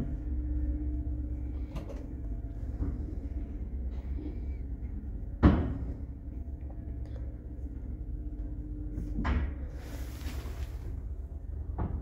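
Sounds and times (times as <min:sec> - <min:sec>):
elevator running rumble: 0:00.0 - 0:12.0.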